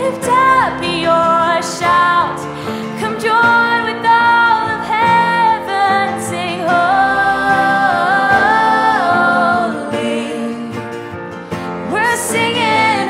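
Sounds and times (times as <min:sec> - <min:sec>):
acoustic guitar: 0:00.0 - 0:13.0
woman singing worship song: 0:00.0 - 0:13.0.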